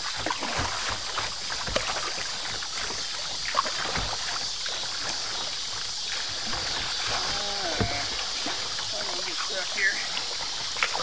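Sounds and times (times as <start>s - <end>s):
river water rushing: 0.0s - 11.0s
water slapping kayak hull: 0.0s - 11.0s.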